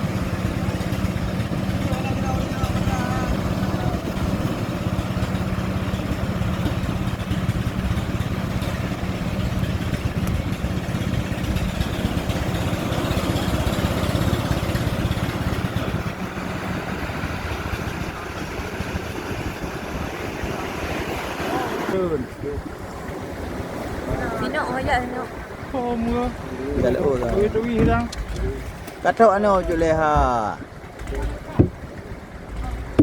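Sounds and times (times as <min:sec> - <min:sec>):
boat engine humming: 0:00.0 - 0:33.0
rush of wind and water: 0:00.0 - 0:33.0.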